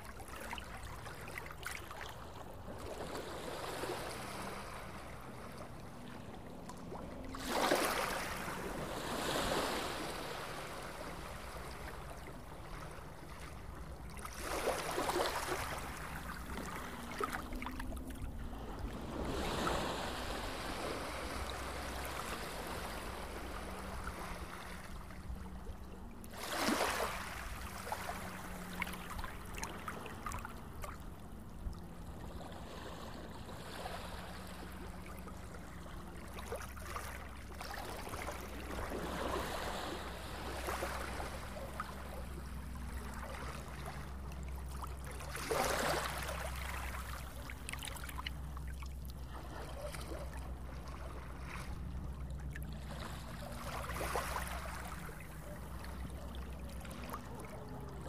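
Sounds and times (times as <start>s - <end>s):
small waves washing ashore: 0.0s - 58.0s.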